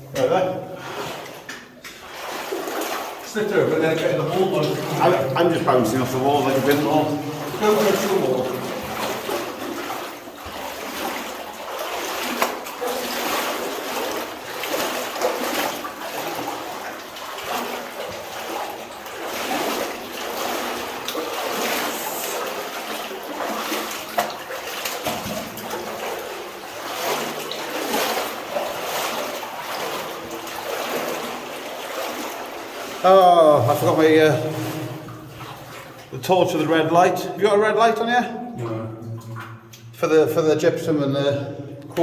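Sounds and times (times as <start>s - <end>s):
wading through water splashing: 0.0s - 40.4s.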